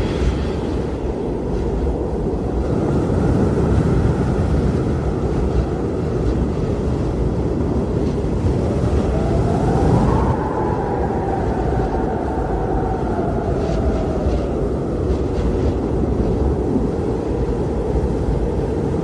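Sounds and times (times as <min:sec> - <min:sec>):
blizzard wind rushing: 0:00.0 - 0:19.0
wind whistling howl: 0:00.0 - 0:19.0.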